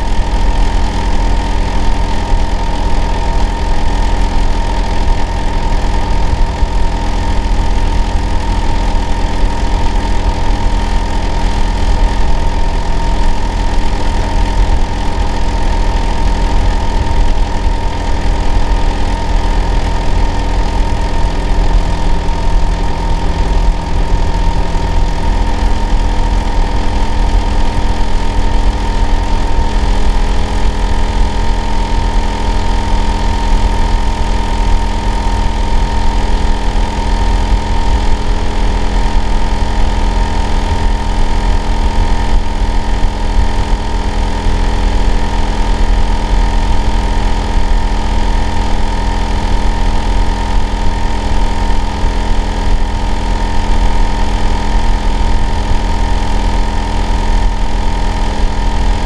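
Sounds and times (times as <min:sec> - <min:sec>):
high whine: 0:00.0 - 0:59.0.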